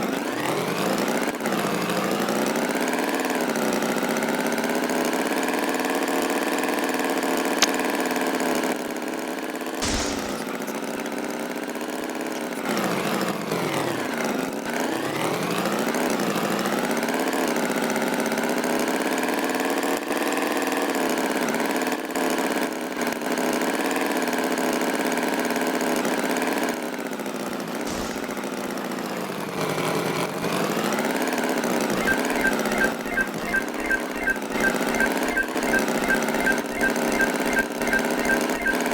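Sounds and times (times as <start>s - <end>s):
cartoon tractor engine: 0.0s - 38.9s.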